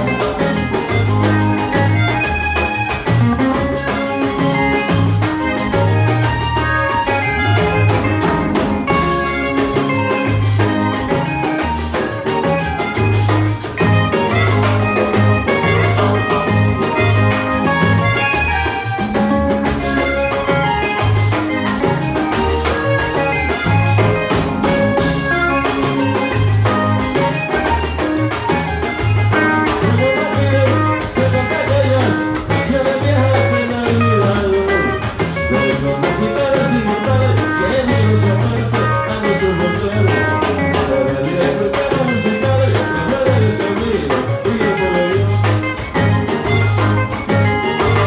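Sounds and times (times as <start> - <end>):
band music with drums and bass: 0.0 - 48.0.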